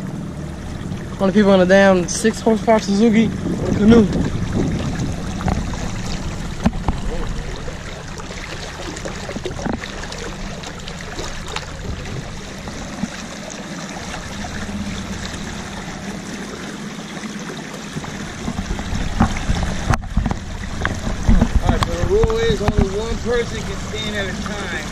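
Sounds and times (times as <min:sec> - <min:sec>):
water splashing along canoe hull: 0:00.0 - 0:24.9.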